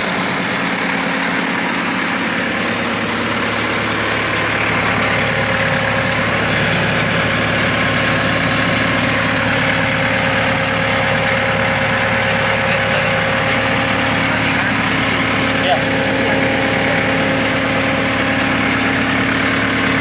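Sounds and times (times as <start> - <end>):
machine engine running: 0.0 - 20.0
steady whine: 0.0 - 20.0.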